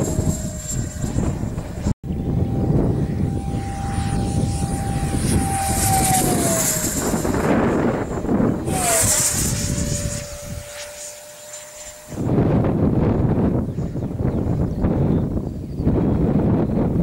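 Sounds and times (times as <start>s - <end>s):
jet engine whine: 0.0s - 17.0s
wind rumble on microphone: 0.0s - 17.0s.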